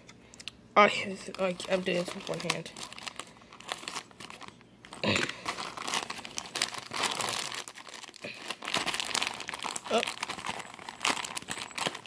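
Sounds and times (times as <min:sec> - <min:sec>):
wrapping crinkling and rustling: 0:00.4 - 0:12.0
scissors snipping plastic bag: 0:01.3 - 0:12.0.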